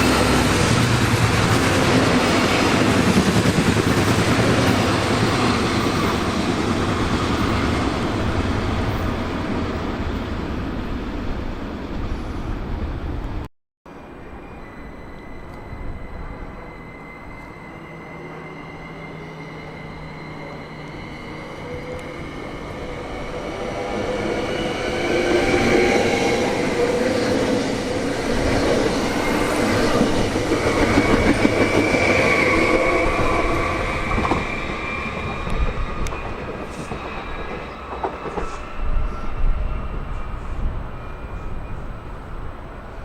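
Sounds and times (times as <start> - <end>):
train passing: 0.0 - 43.0.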